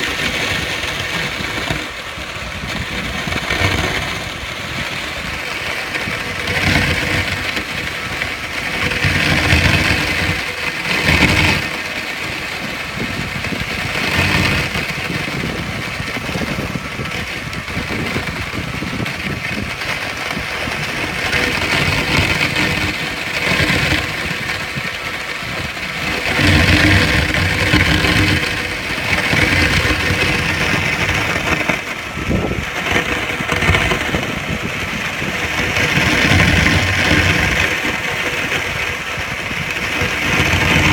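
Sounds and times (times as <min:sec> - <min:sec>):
water jet spraying on metal: 0:00.0 - 0:40.9.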